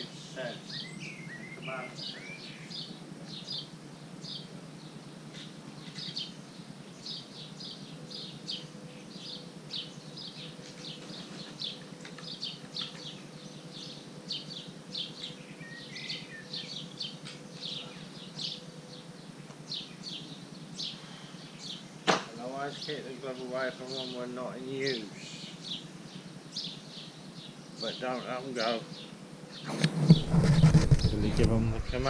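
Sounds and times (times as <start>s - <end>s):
outdoor background noise: 0.0s - 32.0s
small birds chirping: 0.0s - 32.0s.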